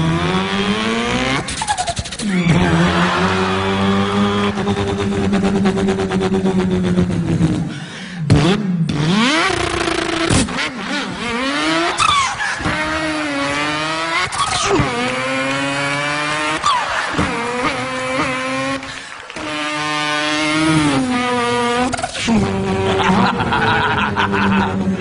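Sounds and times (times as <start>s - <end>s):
man imitating car engine: 0.0s - 25.0s.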